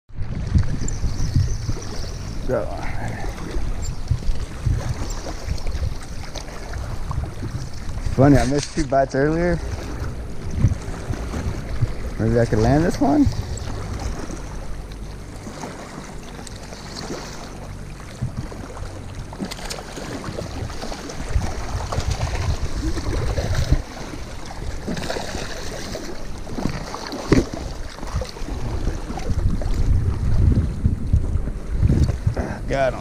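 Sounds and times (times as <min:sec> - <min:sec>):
lake water lapping at shore: 0:00.1 - 0:33.0
wind buffeting microphone: 0:00.1 - 0:33.0.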